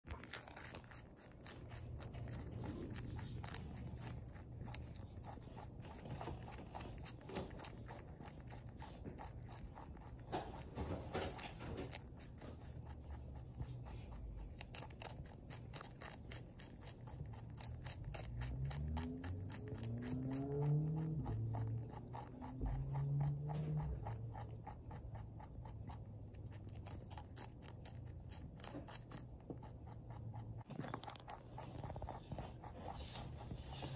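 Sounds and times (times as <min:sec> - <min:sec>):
rabbit crunching lettuce: 0:00.0 - 0:33.9.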